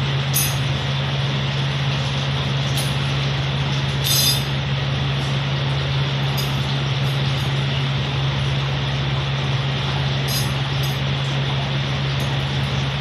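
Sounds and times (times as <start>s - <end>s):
machine drone with low hum: 0.0s - 13.0s.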